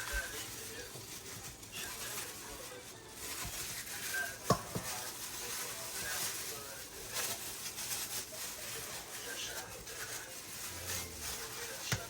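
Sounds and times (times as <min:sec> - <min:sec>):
dishes and utensils handled: 0:00.0 - 0:12.0.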